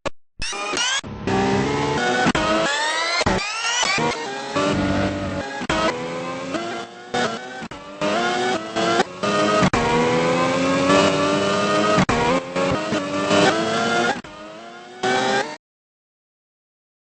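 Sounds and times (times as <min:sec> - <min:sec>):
car engine revving: 0:00.8 - 0:15.6.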